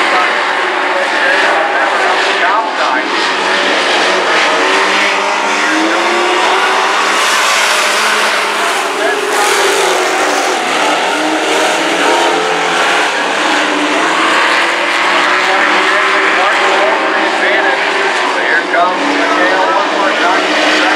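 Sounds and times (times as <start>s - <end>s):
race truck engines passing: 0.0s - 20.9s.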